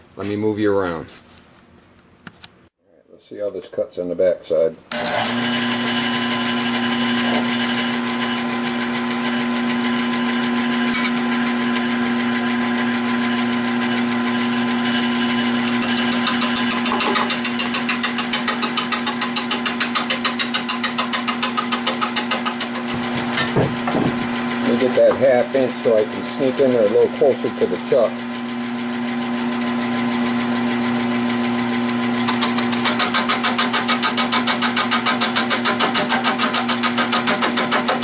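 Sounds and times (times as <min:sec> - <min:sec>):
wood lathe humming: 0:04.9 - 0:38.0.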